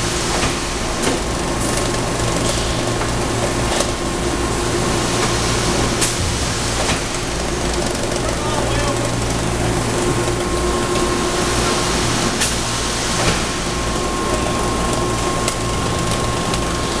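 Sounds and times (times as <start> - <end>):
factory machinery humming: 0.0 - 17.0.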